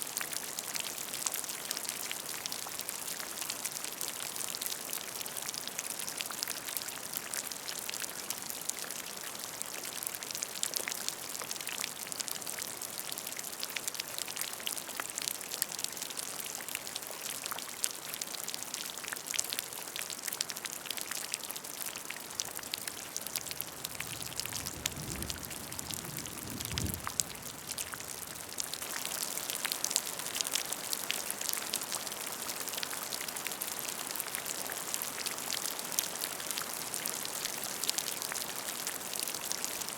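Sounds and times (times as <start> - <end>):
rain falling on a puddle: 0.0 - 39.9.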